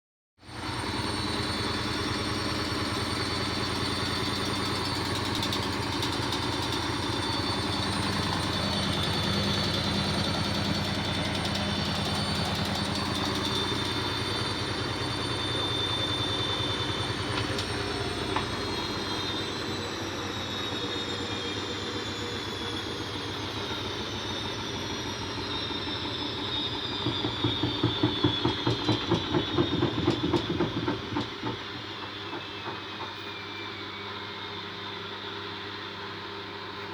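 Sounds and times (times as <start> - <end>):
washing machine spinning: 0.5 - 34.6.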